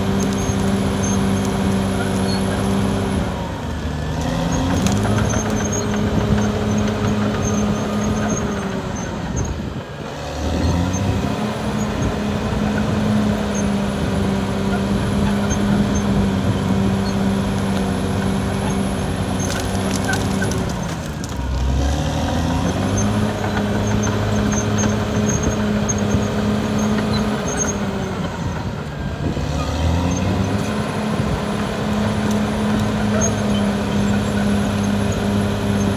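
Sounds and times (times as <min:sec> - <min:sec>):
bulldozer diesel engine under load: 0:00.0 - 0:35.9.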